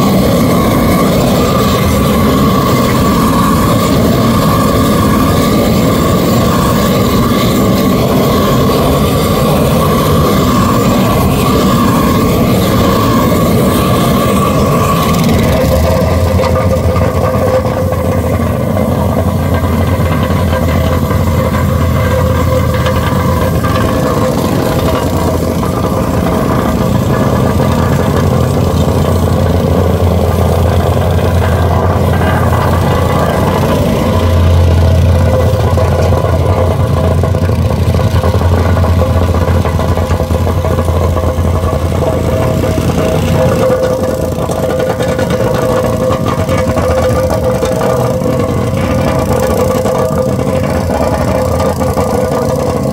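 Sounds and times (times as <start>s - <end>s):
plate compactor engine running: 0.0s - 52.9s.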